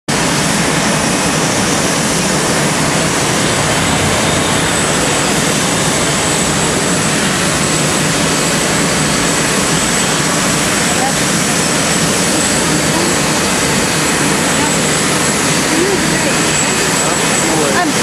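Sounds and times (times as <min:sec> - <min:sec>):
faint high whine: 0:00.1 - 0:18.0
jet engine roar: 0:00.1 - 0:18.0.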